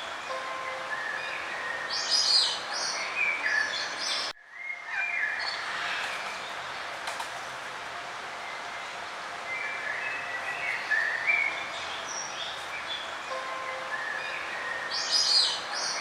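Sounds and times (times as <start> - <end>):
steady background hiss: 0.0 - 16.0
songbirds chirping and whistling: 0.3 - 6.6, 8.4 - 16.0.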